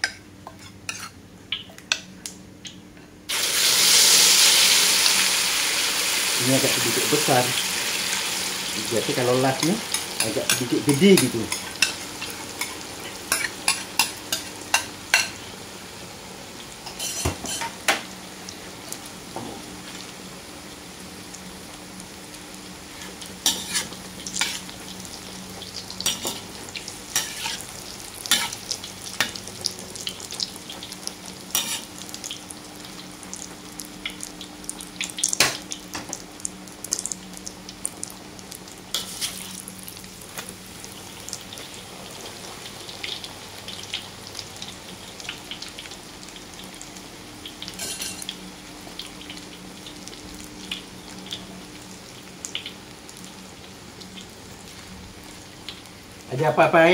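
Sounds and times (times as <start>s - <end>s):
egg sizzling in hot oil: 0.0s - 1.6s, 3.3s - 56.9s.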